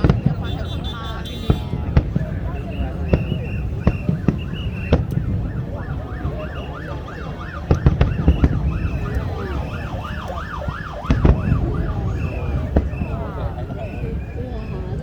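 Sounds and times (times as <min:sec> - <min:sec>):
firework bangs: 0:00.0 - 0:15.0
warbling firework whistles: 0:01.5 - 0:15.0.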